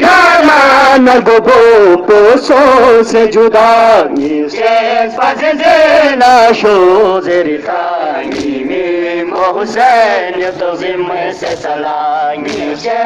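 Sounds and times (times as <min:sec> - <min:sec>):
loud lead voice chanting: 0:00.0 - 0:13.0
men chanting a lament: 0:00.0 - 0:13.0.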